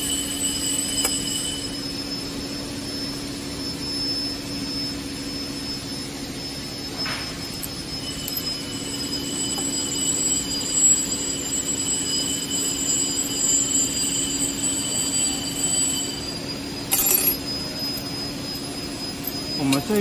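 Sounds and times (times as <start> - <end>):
machinery whine and hum: 0.0 - 20.0
high steady tones: 3.9 - 20.0.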